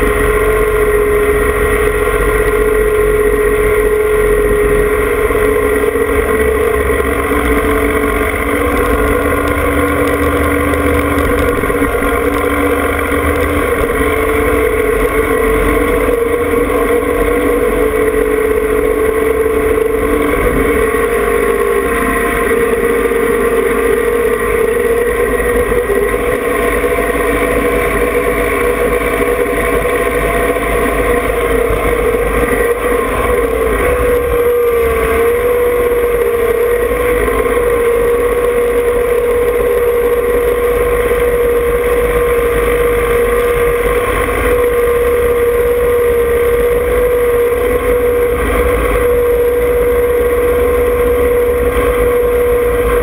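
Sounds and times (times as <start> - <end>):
steady whine: 0.0 - 53.0
tractor diesel engine running: 0.0 - 53.0.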